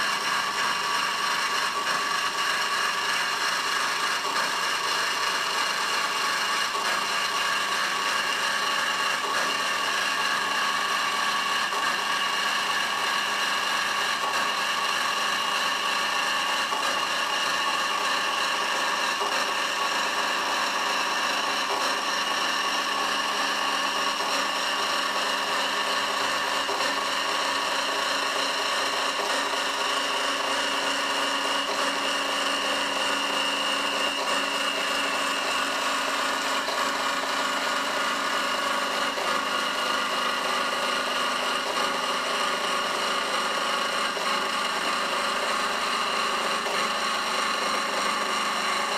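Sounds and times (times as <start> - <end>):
bandsaw cutting metal pipe: 0.0 - 48.9.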